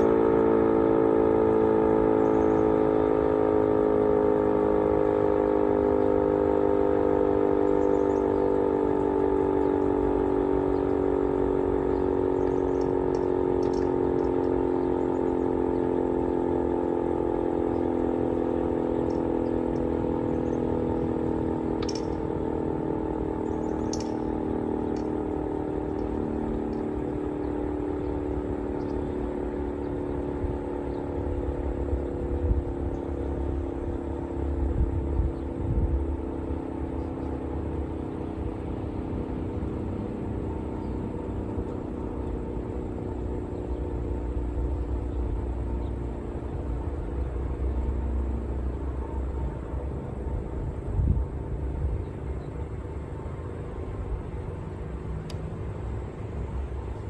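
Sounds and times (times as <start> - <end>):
two-tone siren winding down: 0.0 - 51.9
low rumbling: 0.0 - 57.0.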